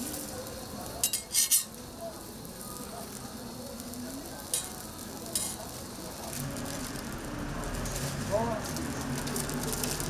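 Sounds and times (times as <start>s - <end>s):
food sizzling on a griddle: 0.0s - 10.0s.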